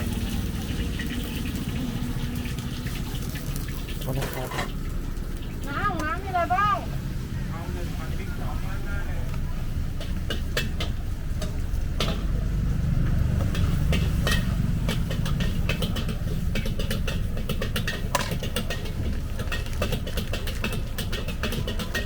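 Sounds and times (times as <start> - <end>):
gas burner roar: 0.0 - 22.0
spatula scraping wok: 0.1 - 5.6, 9.6 - 22.0.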